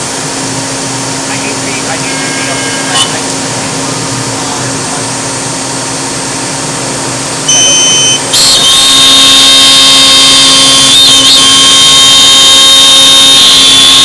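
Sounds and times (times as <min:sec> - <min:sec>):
cnc router humming: 0:00.0 - 0:14.0
high spindle whine: 0:00.0 - 0:14.0.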